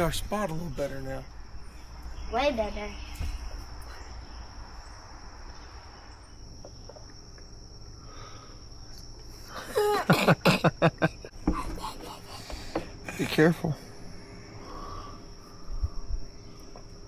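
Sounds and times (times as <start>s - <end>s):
high insect chorus: 0.0s - 17.0s.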